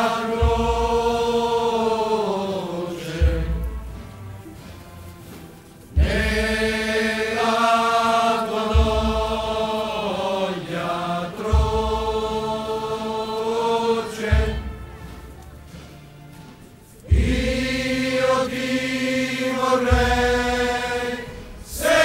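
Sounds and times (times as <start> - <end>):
male choir singing a hymn: 0.0 - 4.1, 5.9 - 15.8, 17.0 - 22.0.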